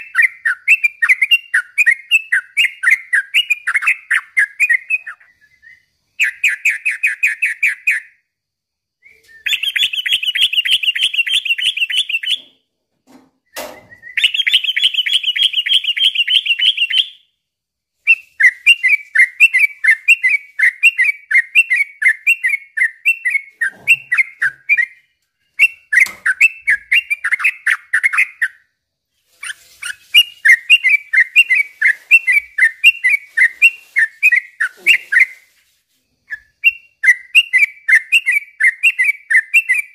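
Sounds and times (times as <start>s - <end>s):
bird singing trills and chirps: 0.0s - 8.2s, 9.1s - 12.6s, 13.5s - 17.4s, 18.0s - 28.7s, 29.4s - 35.6s, 36.2s - 39.9s.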